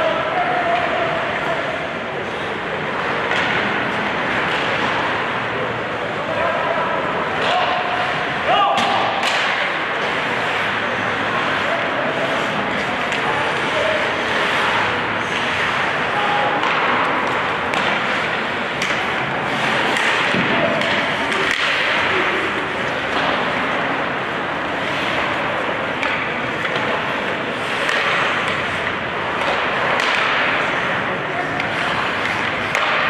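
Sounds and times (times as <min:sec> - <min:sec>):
sticks and puck clacking: 0:00.0 - 0:33.0
skates scraping on ice: 0:00.8 - 0:33.0.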